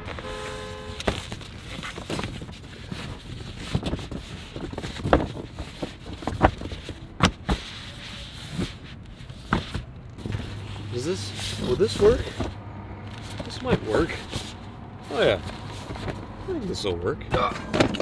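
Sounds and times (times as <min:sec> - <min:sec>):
foam pad rustling and scraping: 0:00.0 - 0:16.6.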